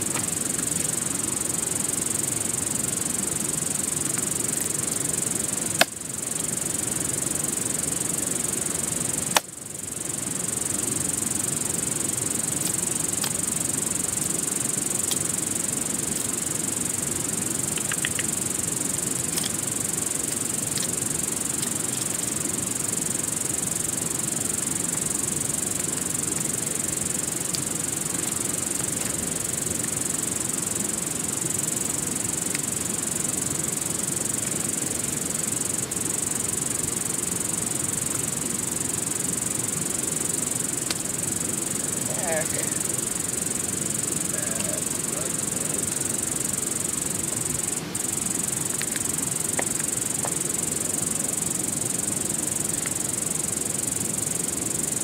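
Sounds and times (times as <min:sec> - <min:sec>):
steady rushing hiss: 0:00.0 - 0:55.0.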